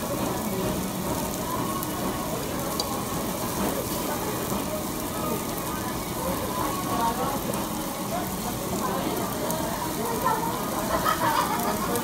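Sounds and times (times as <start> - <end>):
faint voices: 0.0 - 12.0
meat sizzling on a grill: 0.0 - 12.0.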